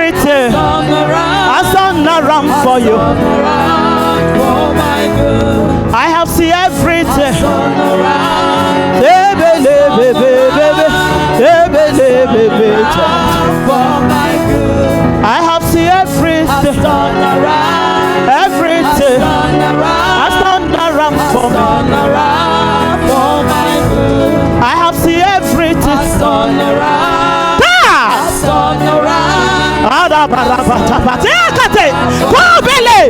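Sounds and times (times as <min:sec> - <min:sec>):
person singing: 0:00.0 - 0:33.0
sustained backing chords: 0:00.0 - 0:33.0.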